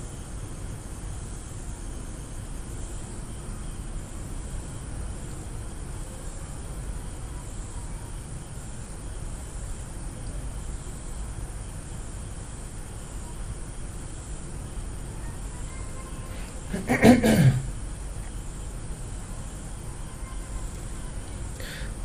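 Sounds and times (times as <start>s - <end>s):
microphone hiss: 0.0s - 22.0s.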